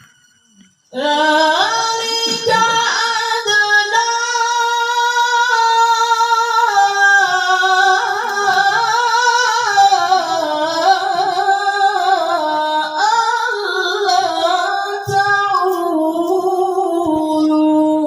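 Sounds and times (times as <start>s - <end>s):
woman chanting melodically: 0.9s - 18.0s.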